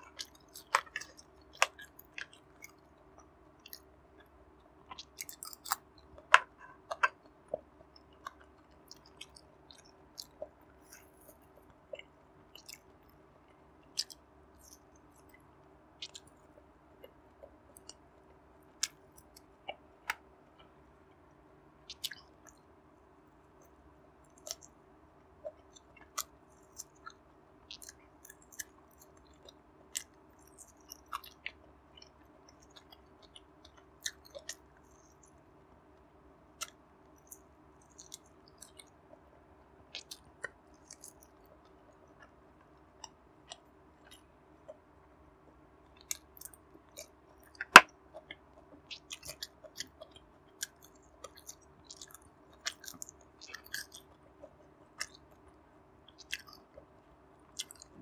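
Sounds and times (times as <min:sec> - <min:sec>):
mouth clicks and smacks: 0:00.0 - 0:13.2, 0:13.8 - 0:15.4, 0:16.0 - 0:18.0, 0:18.8 - 0:20.8, 0:21.9 - 0:22.6, 0:23.6 - 0:24.8, 0:25.4 - 0:35.4, 0:36.6 - 0:39.3, 0:39.9 - 0:44.9, 0:45.8 - 0:58.0
chewing: 0:00.0 - 0:18.0, 0:21.9 - 0:22.6, 0:23.6 - 0:24.8, 0:25.4 - 0:35.4, 0:36.6 - 0:39.3, 0:39.9 - 0:44.8, 0:45.8 - 0:58.0
faint steady hum: 0:00.0 - 0:58.0.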